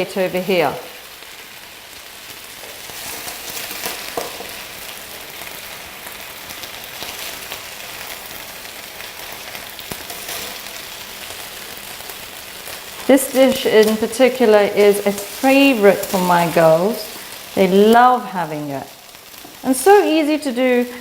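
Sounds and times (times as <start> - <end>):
marinade sizzling on grill: 0.0 - 21.0
small crackles: 0.6 - 21.0.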